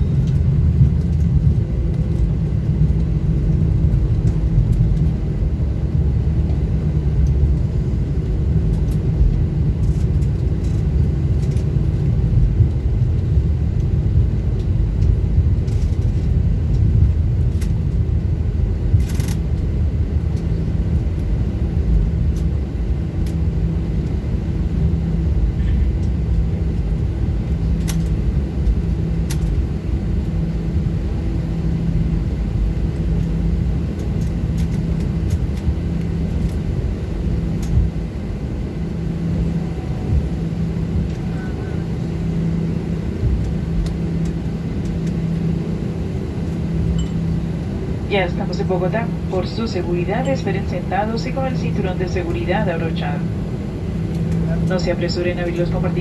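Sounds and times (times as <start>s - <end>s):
aircraft engines and wheels rumbling: 0.0s - 56.0s
faint steady hum: 0.0s - 56.0s.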